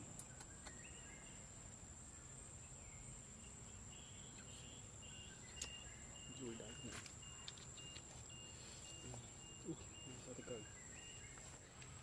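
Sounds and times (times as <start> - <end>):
faint chirps: 0.0 - 12.0.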